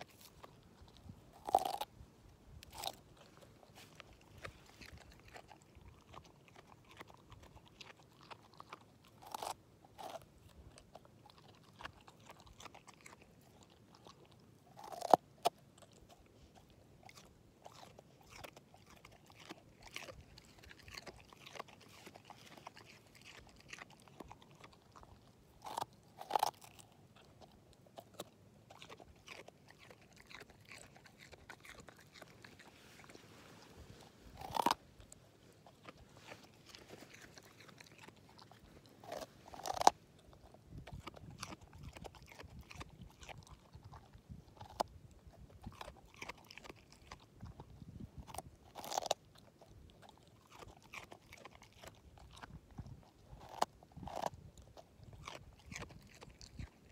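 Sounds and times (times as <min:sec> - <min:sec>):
dog chewing carrot crunches: 0:00.0 - 0:56.9.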